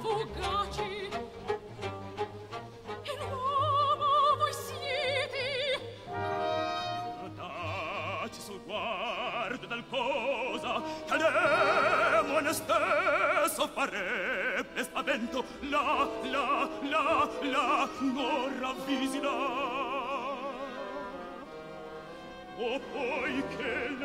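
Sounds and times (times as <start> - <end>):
operatic singing: 0.0 - 24.0
orchestral accompaniment: 0.0 - 24.0.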